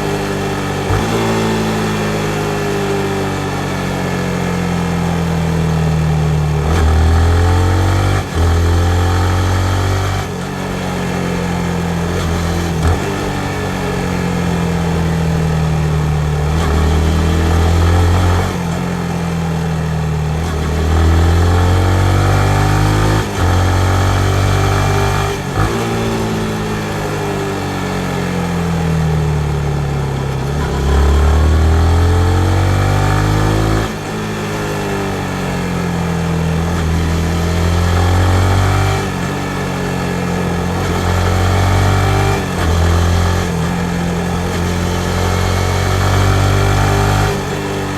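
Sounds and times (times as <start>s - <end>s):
motorcycle engine revving and shifting: 0.0s - 47.9s.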